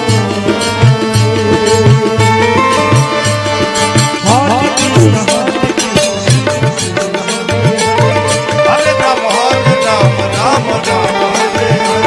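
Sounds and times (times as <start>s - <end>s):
harmonium and keyboard melody: 0.0s - 12.0s.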